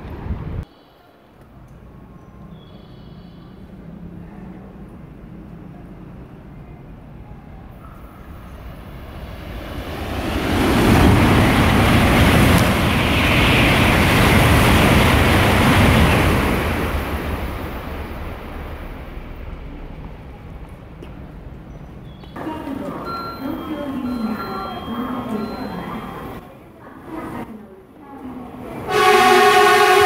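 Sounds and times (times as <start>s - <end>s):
high-speed train passing: 0.0s - 30.0s.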